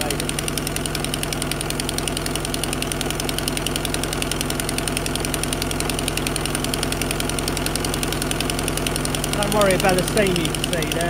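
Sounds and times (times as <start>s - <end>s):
car engine idling: 0.0s - 11.0s
fast even engine ticking: 0.0s - 11.0s.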